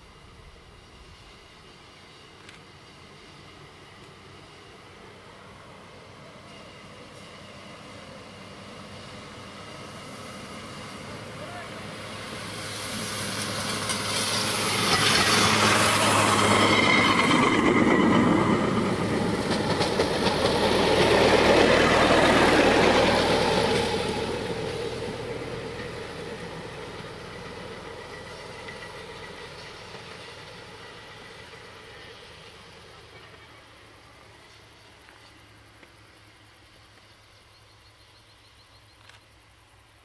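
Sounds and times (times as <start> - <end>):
rail trolley engine: 0.0 - 40.0
wheels on rails: 1.1 - 39.8.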